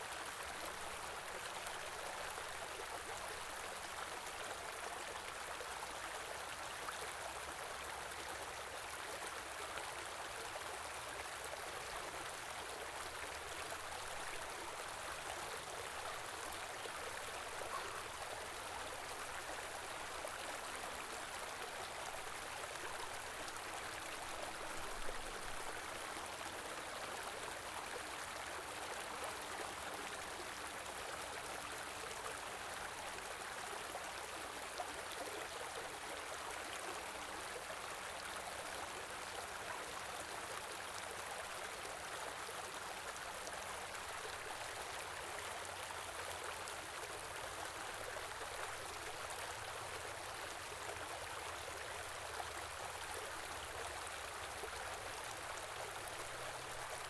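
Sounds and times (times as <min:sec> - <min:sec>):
stream flowing with gurgling: 0:00.0 - 0:57.0.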